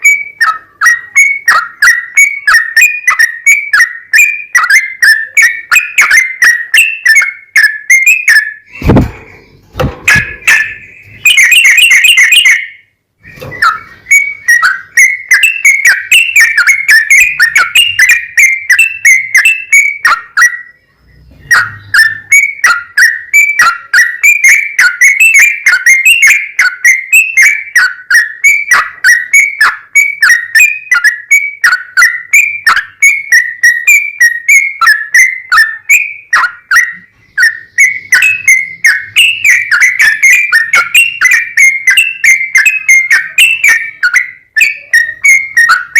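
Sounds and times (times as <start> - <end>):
bird singing whistled notes: 0.0 - 45.9.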